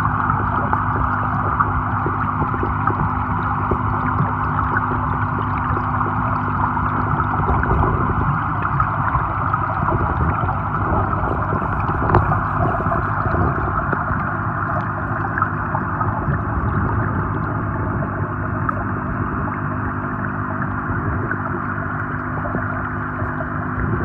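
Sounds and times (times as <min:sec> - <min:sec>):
gurgling water underwater: 0:00.0 - 0:24.0
low hum: 0:00.0 - 0:24.0.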